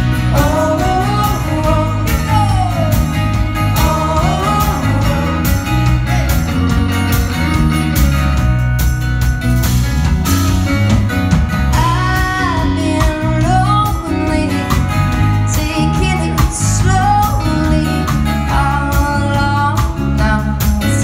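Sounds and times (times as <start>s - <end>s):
live band playing: 0.0s - 21.0s
woman singing: 0.1s - 8.4s, 11.7s - 21.0s.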